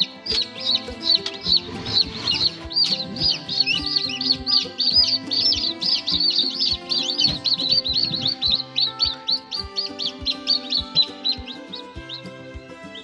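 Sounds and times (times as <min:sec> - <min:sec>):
background music with beat: 0:00.0 - 0:13.0
chicks peeping: 0:00.0 - 0:13.0.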